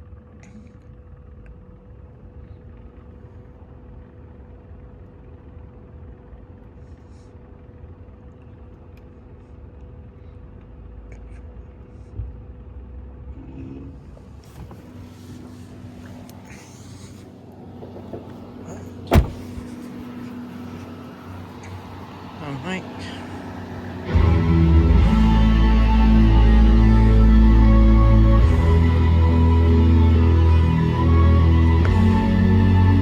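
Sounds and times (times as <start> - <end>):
car engine rumble: 0.0 - 33.0
faint steady hum: 0.0 - 33.0.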